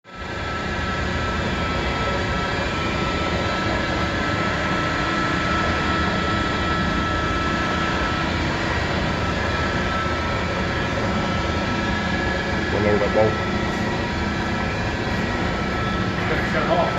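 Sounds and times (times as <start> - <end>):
machinery hum with whining tones: 0.1 - 16.9.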